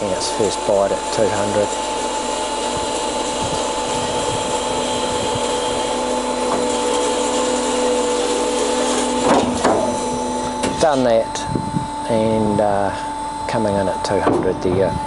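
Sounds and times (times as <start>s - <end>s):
bandsaw cutting wood: 0.0s - 15.0s.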